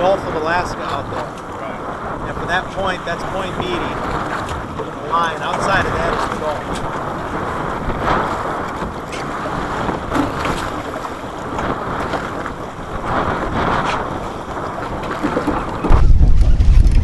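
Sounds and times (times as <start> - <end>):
sea noise: 0.0 - 17.0
wind buffeting microphone: 0.0 - 17.0.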